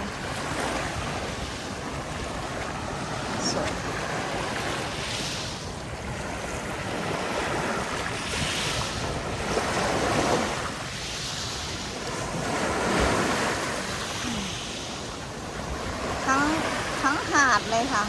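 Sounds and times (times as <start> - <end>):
sea waves washing onto beach: 0.0 - 18.0
wind buffeting microphone: 0.0 - 18.0.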